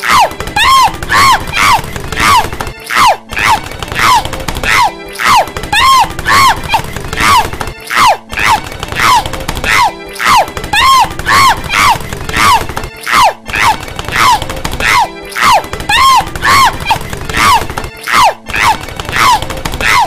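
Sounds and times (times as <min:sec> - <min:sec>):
cartoon voice yelping: 0:00.0 - 0:20.0.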